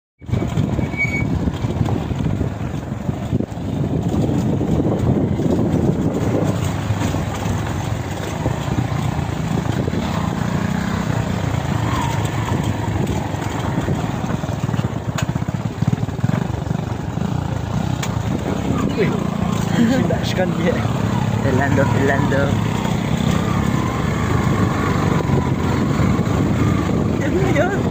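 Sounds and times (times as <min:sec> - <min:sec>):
motorcycle engine running: 0:00.2 - 0:27.9.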